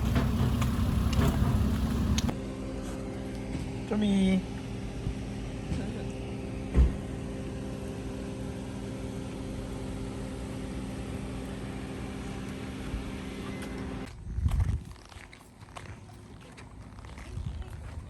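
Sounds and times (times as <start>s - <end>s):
steady mechanical hum: 0.0s - 14.8s.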